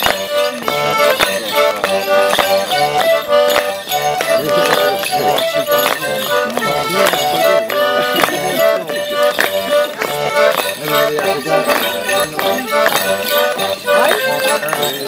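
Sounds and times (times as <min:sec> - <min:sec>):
accordion dance tune: 0:00.0 - 0:15.0
clogs striking paving: 0:00.0 - 0:15.0.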